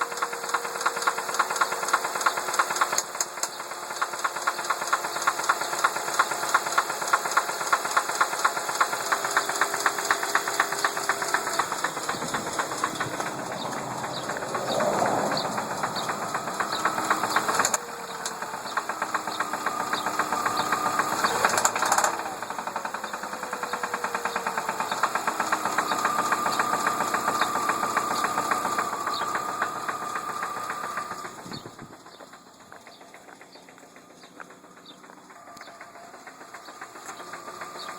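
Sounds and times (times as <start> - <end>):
car engine with knocking rattle: 0.0 - 37.9.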